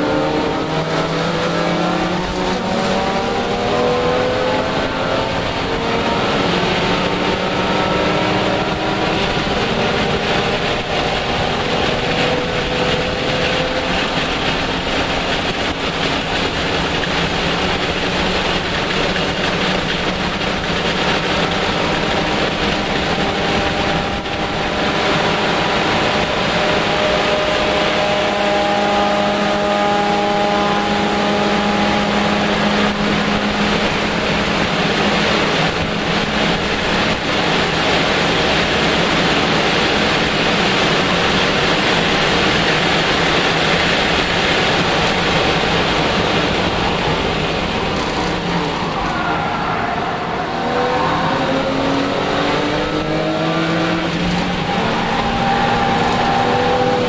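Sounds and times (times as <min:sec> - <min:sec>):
race car engine running hard: 0:00.0 - 0:57.0
road noise: 0:00.0 - 0:57.0.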